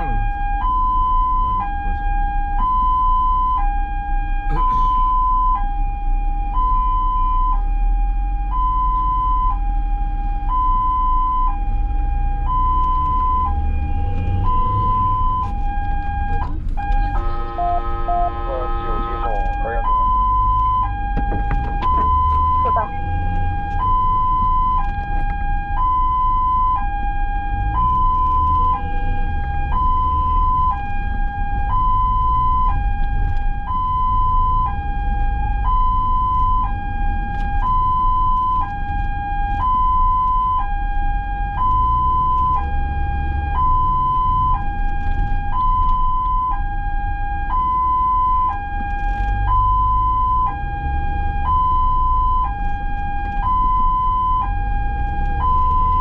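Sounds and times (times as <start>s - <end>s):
ambulance two-tone siren: 0.0s - 56.0s
road noise: 0.0s - 56.0s
vehicle engine rumble: 0.0s - 56.0s.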